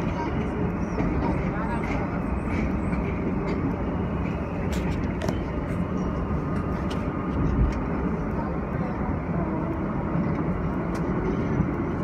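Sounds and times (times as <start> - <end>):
train passing on next track: 0.0 - 12.0
train wheels rumbling on rail: 0.0 - 12.0.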